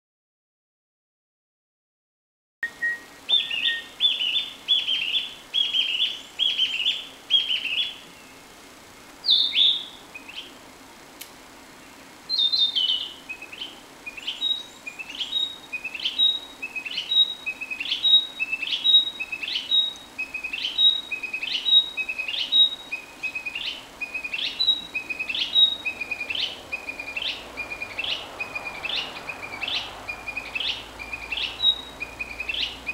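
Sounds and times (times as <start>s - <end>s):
bird singing whistled notes: 2.6s - 8.4s, 9.2s - 10.5s, 12.3s - 32.9s.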